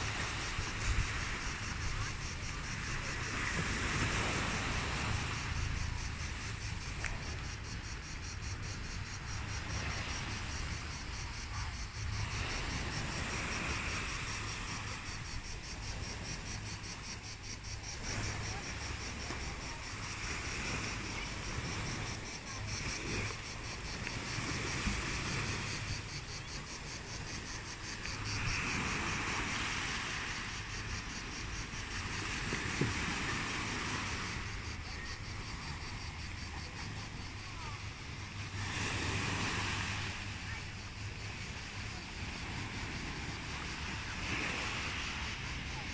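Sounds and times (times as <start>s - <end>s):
insects buzzing: 0.0s - 45.9s
waves washing against rocks: 0.0s - 45.9s.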